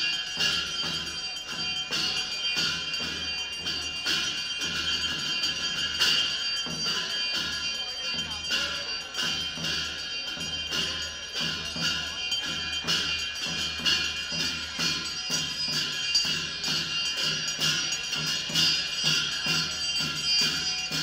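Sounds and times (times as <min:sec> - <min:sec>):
drum strokes: 0:00.0 - 0:21.0
ringing metal percussion: 0:00.0 - 0:21.0.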